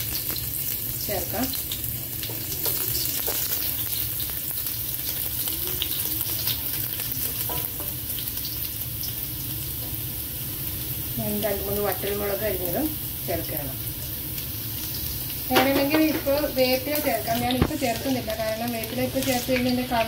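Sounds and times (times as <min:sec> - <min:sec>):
shallots sizzling in hot oil: 0:00.0 - 0:20.0.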